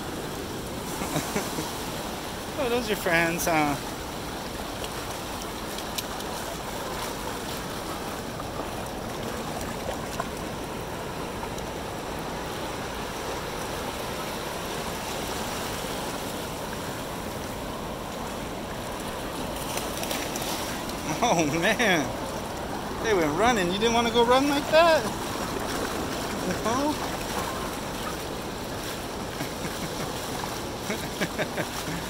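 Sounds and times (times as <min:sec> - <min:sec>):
ocean surf washing over shallows: 0:00.0 - 0:32.0.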